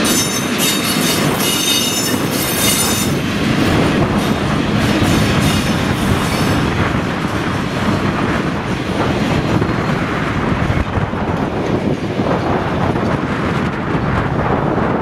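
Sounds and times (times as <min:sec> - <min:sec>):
diesel locomotive: 0:00.0 - 0:15.0
freight train wheels clattering: 0:00.0 - 0:15.0.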